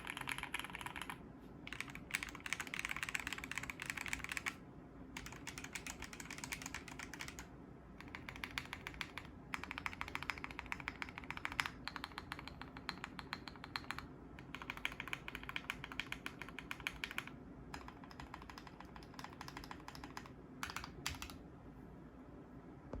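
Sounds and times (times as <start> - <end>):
mechanical keyboard typing: 0.0 - 4.6, 5.2 - 21.4.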